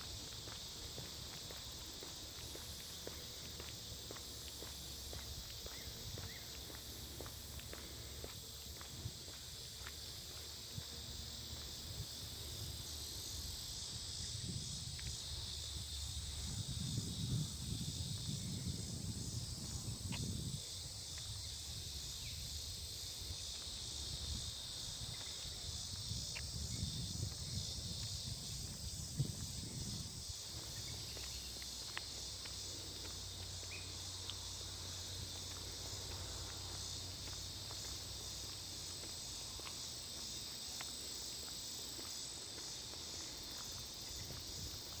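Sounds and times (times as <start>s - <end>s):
crickets and insects trilling: 0.0s - 45.0s.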